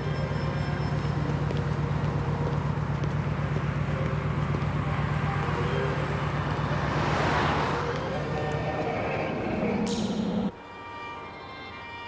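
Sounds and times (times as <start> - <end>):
cars passing on city street: 0.0 - 12.0.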